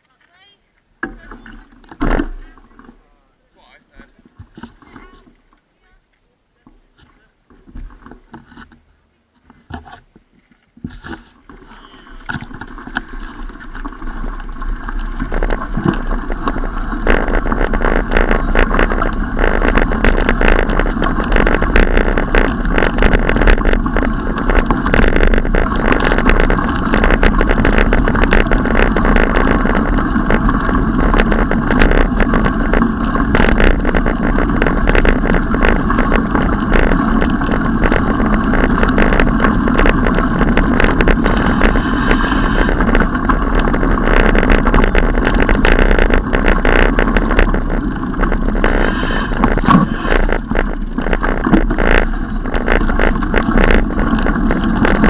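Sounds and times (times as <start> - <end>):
bicycle tyre road rumble: 0.0 - 55.0
bicycle rattles and clicks: 10.9 - 55.0.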